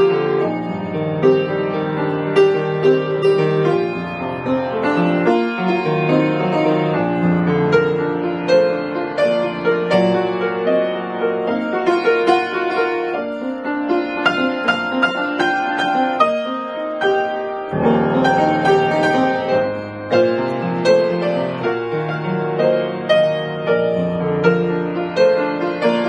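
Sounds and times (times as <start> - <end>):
solo grand piano: 0.0 - 26.0.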